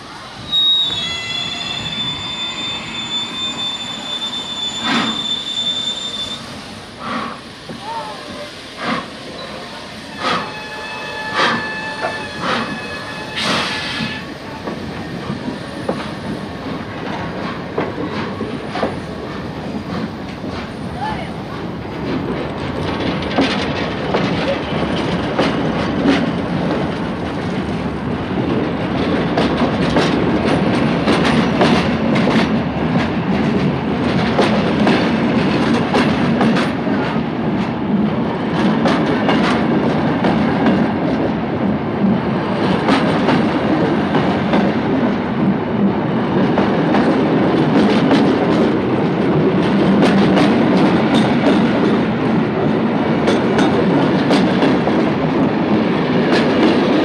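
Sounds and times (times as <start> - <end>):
steam train rumble: 0.0 - 57.0
train wheels clicking over rail joints: 8.8 - 9.4, 11.3 - 12.8, 13.4 - 57.0.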